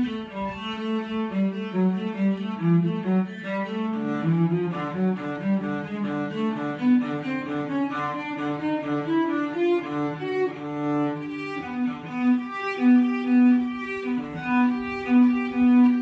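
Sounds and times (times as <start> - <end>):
solo cello playing: 0.0 - 16.0.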